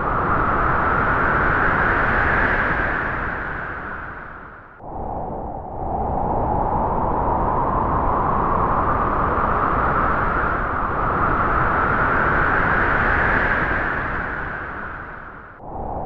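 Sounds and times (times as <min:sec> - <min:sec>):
strong wind gust rushing: 0:00.0 - 0:16.0.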